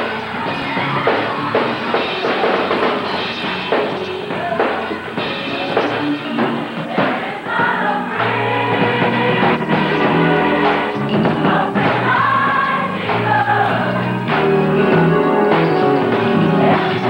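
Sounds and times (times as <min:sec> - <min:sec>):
choir singing over band: 0:00.0 - 0:17.0
drum kit beat: 0:00.0 - 0:17.0.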